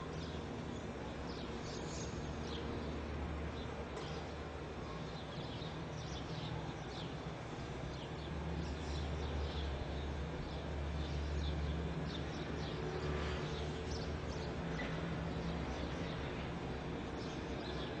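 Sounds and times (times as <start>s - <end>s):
low city hum: 0.0s - 18.0s
small birds chirping: 0.1s - 18.0s.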